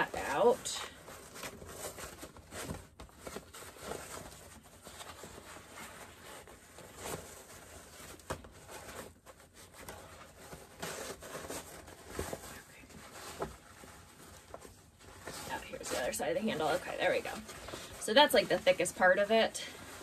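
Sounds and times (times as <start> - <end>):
fabric rustling and crinkling: 0.0 - 20.0.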